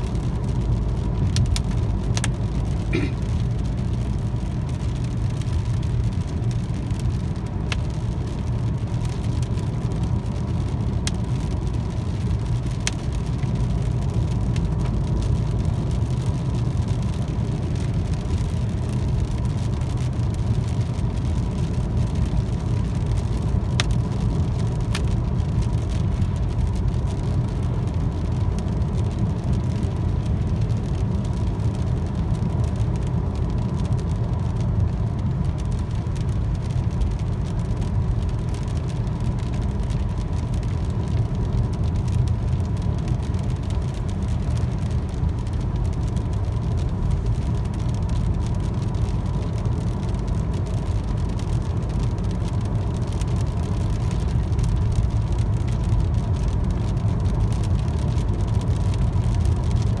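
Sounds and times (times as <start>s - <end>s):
tyres rumbling on wet pavement: 0.0s - 60.0s.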